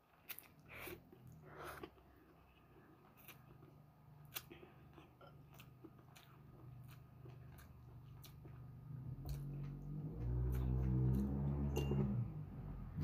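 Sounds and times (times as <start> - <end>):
chewing noodles: 0.1 - 11.5.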